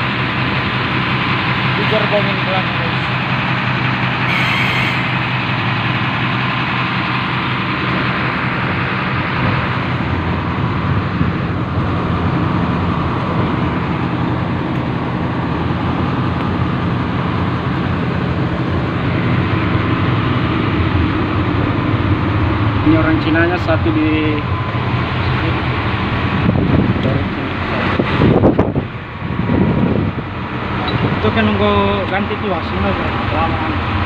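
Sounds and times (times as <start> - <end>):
train engine running: 0.0 - 34.0.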